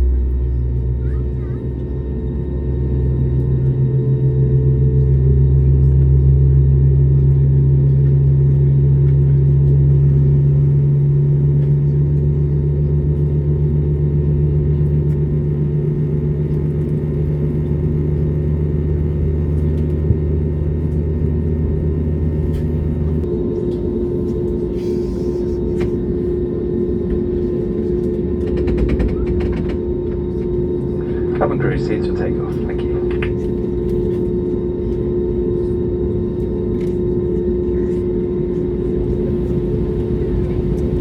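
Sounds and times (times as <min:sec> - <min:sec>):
aircraft cabin drone: 0:00.0 - 0:41.0.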